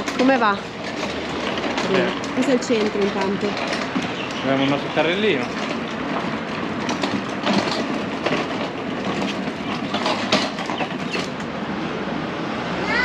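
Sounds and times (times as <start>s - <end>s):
trolley wheels rattling on pavement: 0.0s - 13.0s.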